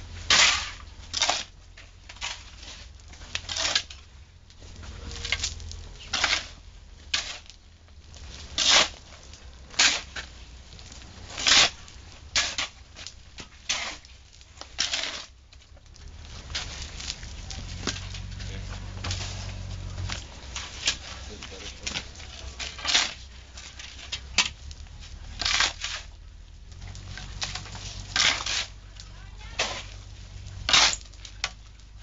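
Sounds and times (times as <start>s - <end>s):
shovels scraping sand mix: 0.0s - 32.0s.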